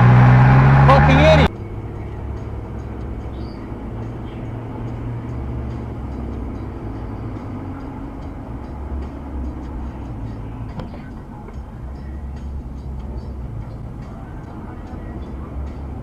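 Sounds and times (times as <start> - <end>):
motor vehicle rumbling: 0.0 - 16.0
road noise: 0.0 - 16.0.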